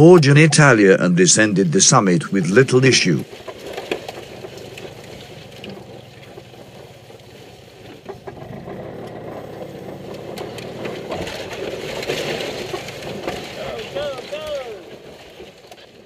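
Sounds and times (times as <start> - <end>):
car engine running slowly: 0.1 - 16.0
car jolting knocks: 3.0 - 16.0.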